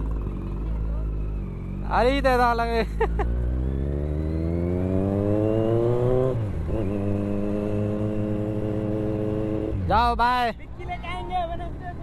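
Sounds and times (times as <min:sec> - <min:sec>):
motorcycle engine accelerating: 0:00.0 - 0:10.2.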